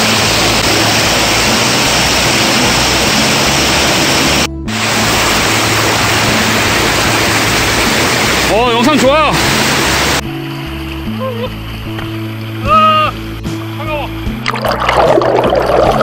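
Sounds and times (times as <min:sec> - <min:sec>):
stream water rushing: 0:00.0 - 0:16.0
background music: 0:00.1 - 0:16.0.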